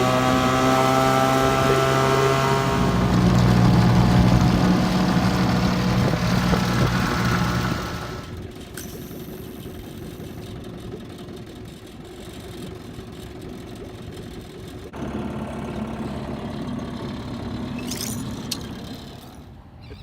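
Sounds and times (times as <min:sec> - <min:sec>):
outboard motor humming: 0:00.0 - 0:19.4.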